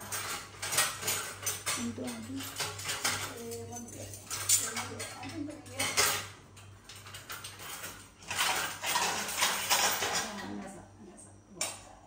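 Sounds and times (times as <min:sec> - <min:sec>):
pots and utensils clattering: 0:00.0 - 0:10.8.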